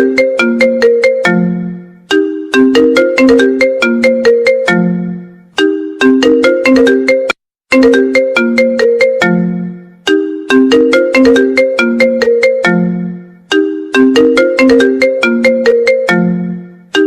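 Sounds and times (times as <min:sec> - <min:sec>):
marimba-like ringtone melody: 0:00.0 - 0:17.0.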